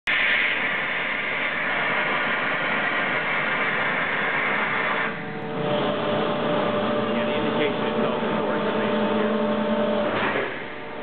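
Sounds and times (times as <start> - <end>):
industrial machinery running: 0.1 - 11.0.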